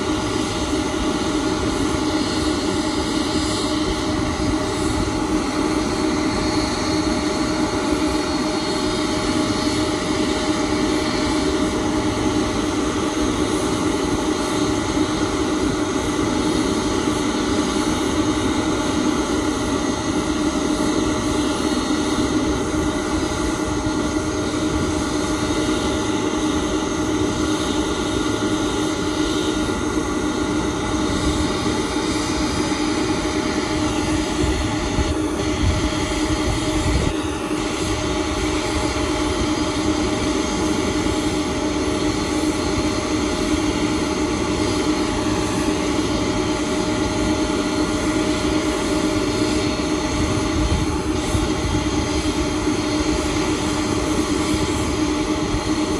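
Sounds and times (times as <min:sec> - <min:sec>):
jet engines droning: 0:00.0 - 0:55.9.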